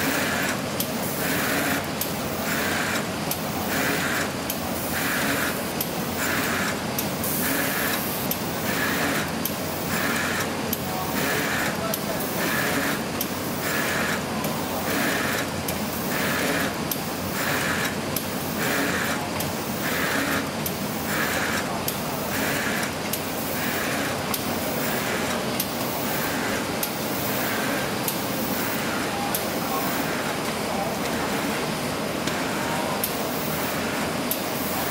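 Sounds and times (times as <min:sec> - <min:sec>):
paper machine mechanical drone: 0:00.0 - 0:34.9.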